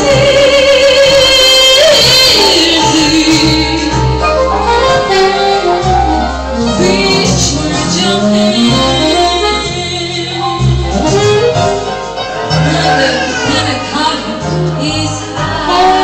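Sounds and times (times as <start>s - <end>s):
woman singing: 0.0s - 11.4s, 12.6s - 16.0s
instrumental backing with bass: 0.0s - 16.0s.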